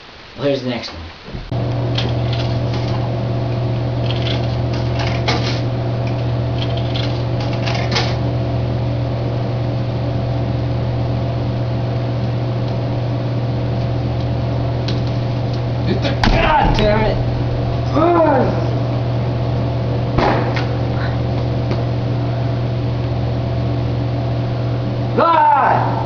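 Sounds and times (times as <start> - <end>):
vending machine humming: 0.0 - 26.0.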